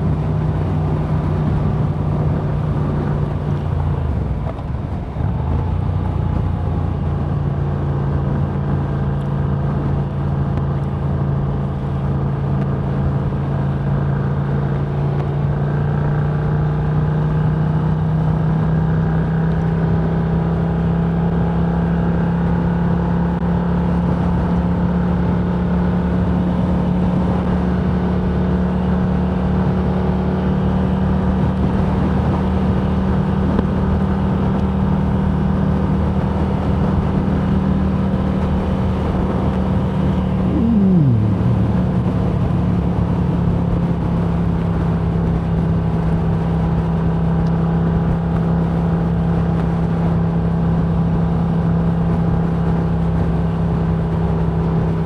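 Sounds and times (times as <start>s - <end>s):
road noise: 0.0s - 55.0s
vehicle engine hum: 0.0s - 55.0s.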